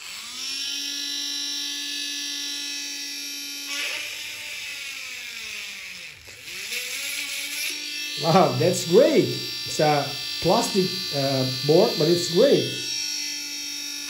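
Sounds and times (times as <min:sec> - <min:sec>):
small drill motor whining: 0:00.0 - 0:14.0.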